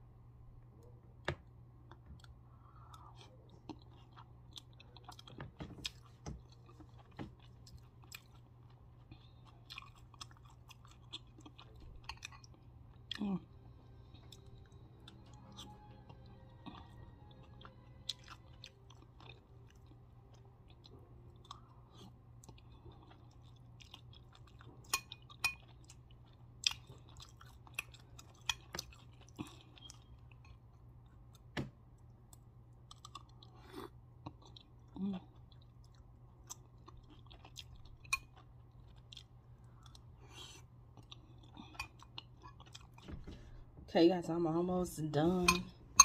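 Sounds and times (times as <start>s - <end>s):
steady low hum: 0.0s - 46.0s
chewing and mouth sounds: 1.8s - 13.3s, 14.0s - 43.1s.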